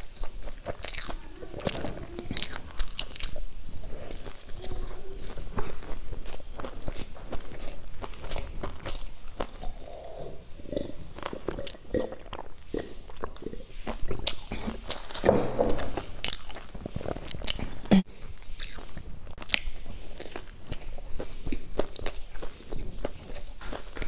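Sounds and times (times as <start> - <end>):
crunching and chewing food: 0.0 - 24.0.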